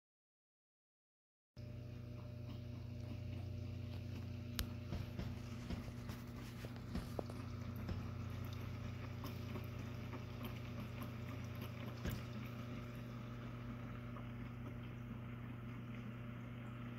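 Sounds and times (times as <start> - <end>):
machine humming: 1.6 - 16.9.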